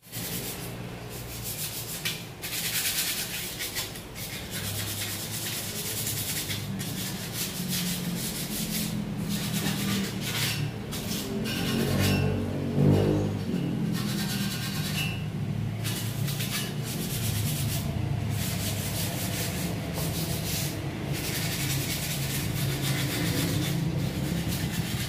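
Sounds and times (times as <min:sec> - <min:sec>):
sanding scraping on metal: 0:00.0 - 0:25.0.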